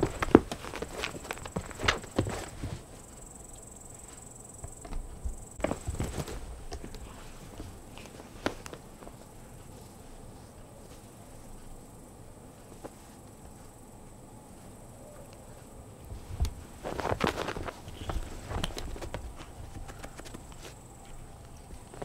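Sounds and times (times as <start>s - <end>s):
cats scuffling on a rug: 0.0s - 22.0s.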